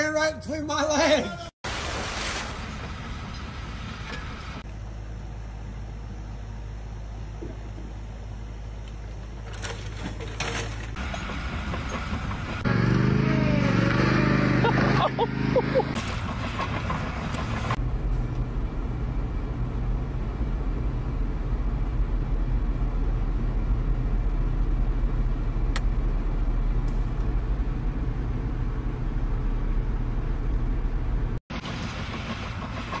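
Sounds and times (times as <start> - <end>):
vehicle engine rumbling: 2.5 - 33.0.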